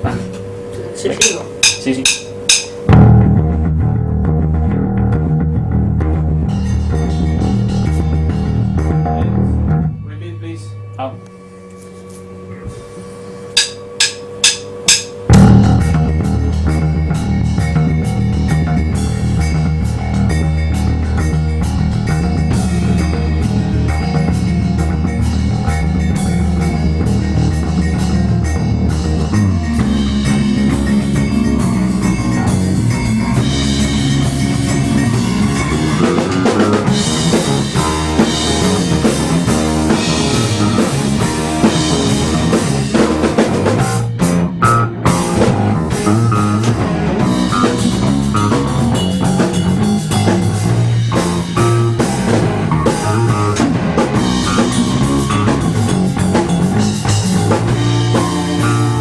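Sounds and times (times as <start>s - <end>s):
rock music with drums and guitar: 1.2s - 9.9s, 13.6s - 59.0s.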